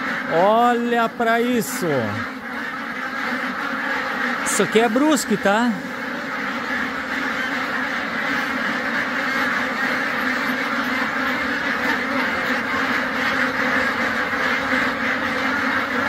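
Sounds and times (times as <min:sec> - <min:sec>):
flock of ducks quacking: 0:00.0 - 0:16.0.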